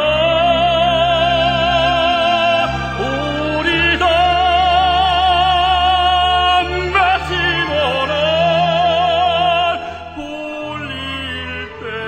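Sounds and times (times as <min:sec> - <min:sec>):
slow melody with vibrato: 0:00.0 - 0:12.0
sustained low accompaniment: 0:00.0 - 0:12.0.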